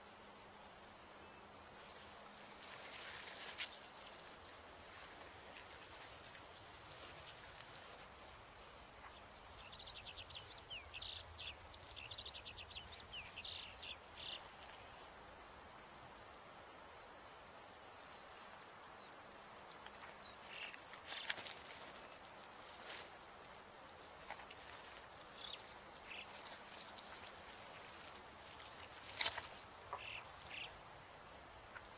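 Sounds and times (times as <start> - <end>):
faint steady hiss: 0.0 - 31.9.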